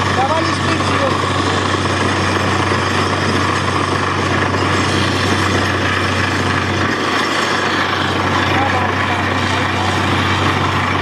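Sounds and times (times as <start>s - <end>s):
drilling rig engine hum: 0.0s - 11.0s.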